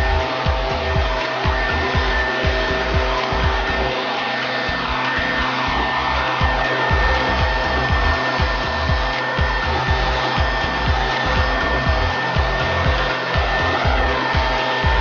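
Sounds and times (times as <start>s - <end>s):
leaf blower running: 0.0s - 15.0s.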